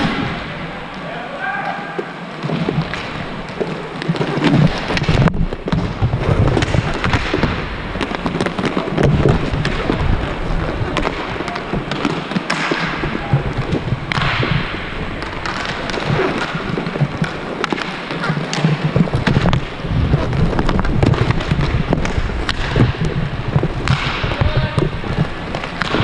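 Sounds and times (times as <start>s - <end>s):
clacks and thuds of sticks and puck: 0.0s - 26.0s
rumble of skating on rink: 0.0s - 26.0s.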